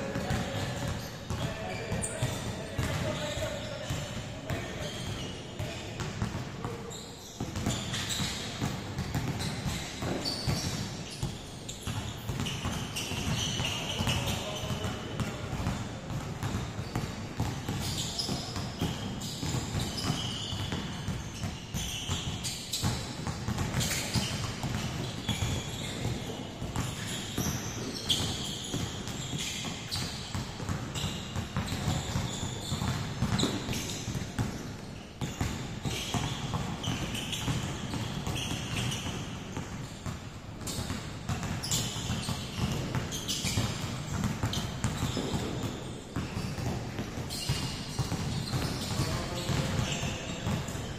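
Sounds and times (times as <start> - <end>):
shoe squeaks: 0.0 - 15.8, 16.4 - 50.9
basketballs bouncing on wooden floor: 0.0 - 50.9.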